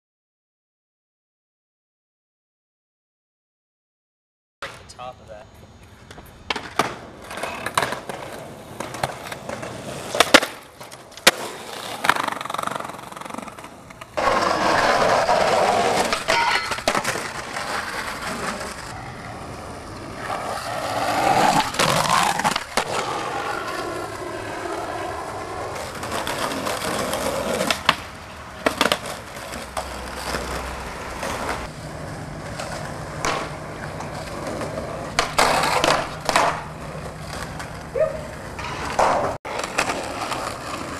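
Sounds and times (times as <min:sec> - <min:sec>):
skateboard wheels rolling: 0:05.6 - 0:40.9
skateboard clacking on ground: 0:05.8 - 0:40.9.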